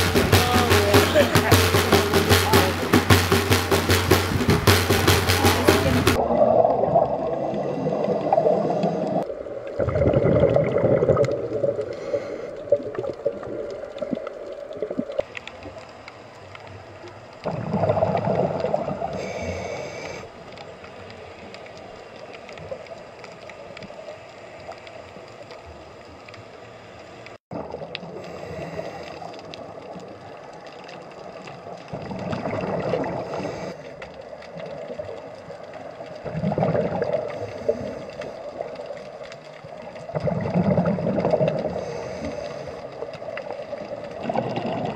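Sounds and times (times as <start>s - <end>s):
diver's bubbles gurgling: 0.0s - 15.8s, 17.1s - 20.1s, 27.5s - 44.9s
low underwater hiss: 0.0s - 44.9s.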